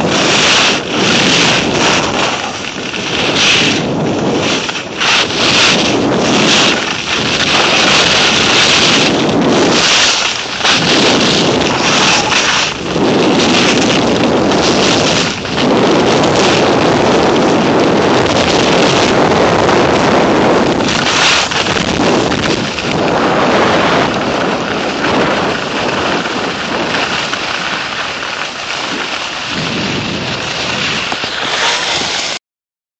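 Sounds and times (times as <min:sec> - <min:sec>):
skis scraping over packed snow: 0:00.0 - 0:32.4
wind buffeting microphone: 0:00.0 - 0:32.4.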